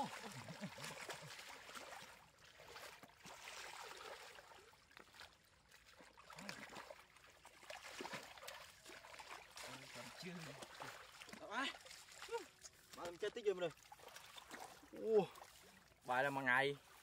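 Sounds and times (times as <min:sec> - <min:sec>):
wet splashes: 0:00.0 - 0:16.2
muddy water sloshing: 0:00.0 - 0:17.0.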